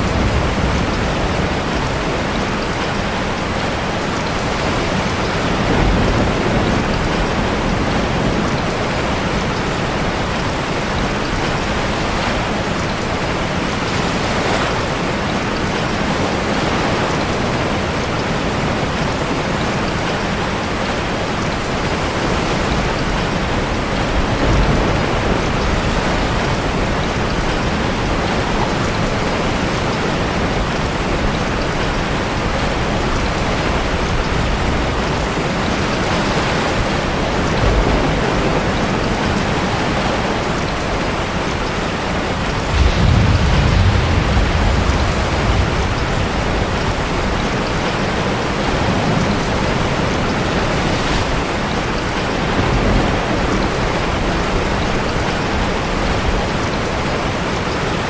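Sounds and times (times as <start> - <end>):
heavy rain: 0.0 - 58.0
surf: 0.0 - 58.0.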